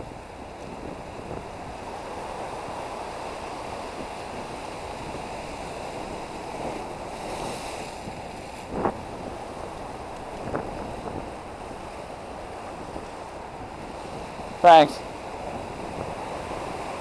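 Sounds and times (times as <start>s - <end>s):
waves washing against rocks: 0.0s - 17.0s.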